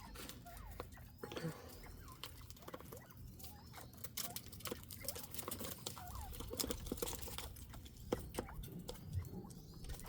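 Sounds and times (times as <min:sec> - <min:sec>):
quail chirping calls: 0:00.0 - 0:10.0.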